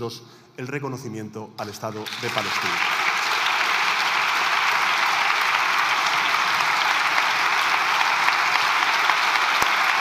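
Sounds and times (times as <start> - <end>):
crowd applauding: 1.9 - 10.0.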